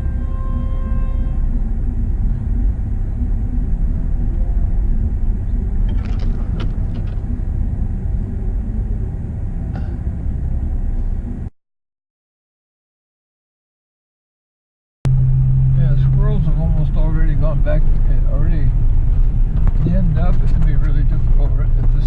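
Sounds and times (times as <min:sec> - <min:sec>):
vehicle rumble on rough road: 0:00.0 - 0:11.5, 0:15.1 - 0:22.0.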